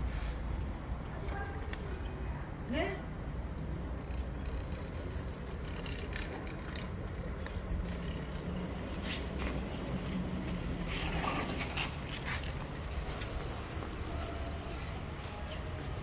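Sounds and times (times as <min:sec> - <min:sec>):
low rumble of city traffic: 0:00.0 - 0:16.0.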